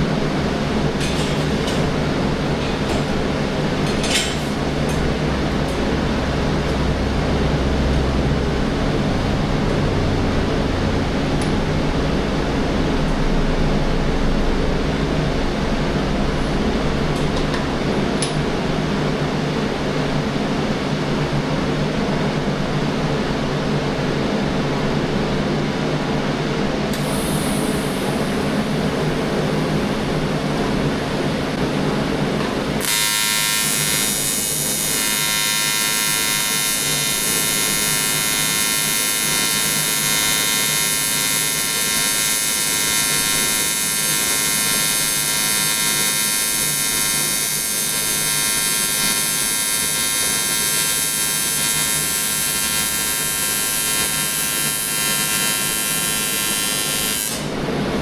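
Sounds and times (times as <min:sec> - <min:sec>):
welding arc buzzing: 0:00.0 - 0:19.0, 0:26.9 - 0:30.2, 0:32.5 - 0:57.7
machine hum: 0:00.0 - 0:58.0.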